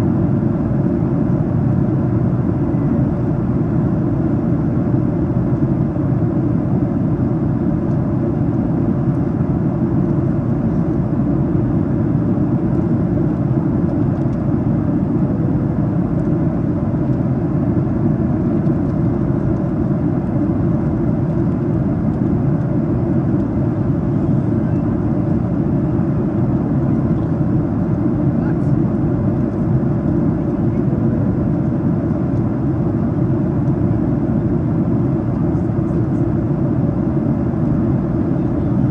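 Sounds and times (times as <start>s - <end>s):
airplane cabin noise: 0.0s - 38.9s.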